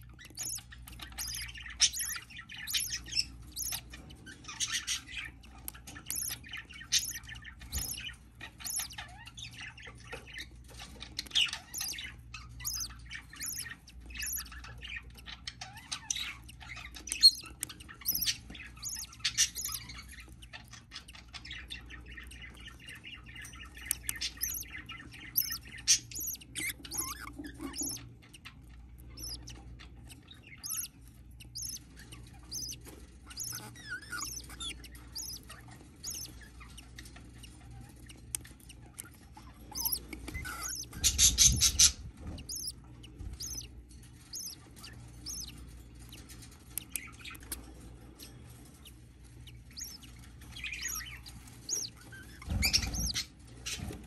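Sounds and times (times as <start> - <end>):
budgerigars chirping: 0.0 - 54.0
soft bird chattering: 0.0 - 54.0.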